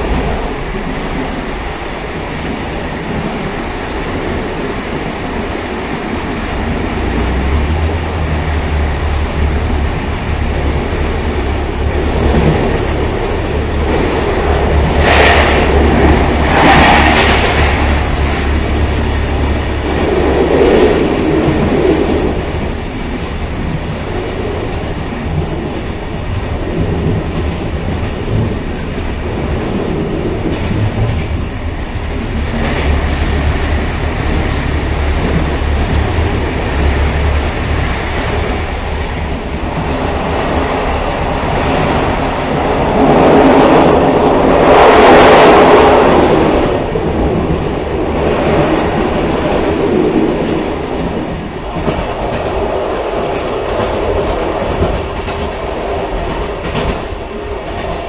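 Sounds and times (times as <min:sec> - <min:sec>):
railcar rumbling along track: 0:00.0 - 0:58.0.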